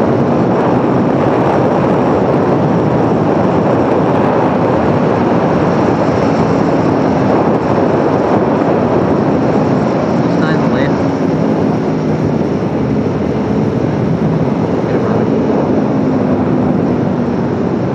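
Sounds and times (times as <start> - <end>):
motorcycle engine at speed: 0.0 - 17.9
wind and road noise: 0.0 - 17.9.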